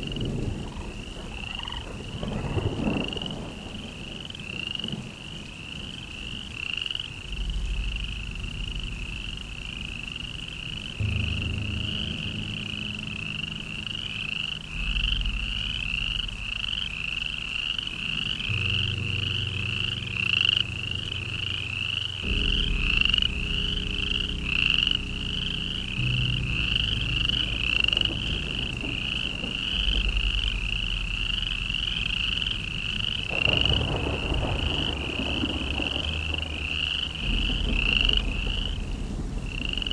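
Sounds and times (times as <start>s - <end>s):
low drone notes: 0.0s - 39.9s.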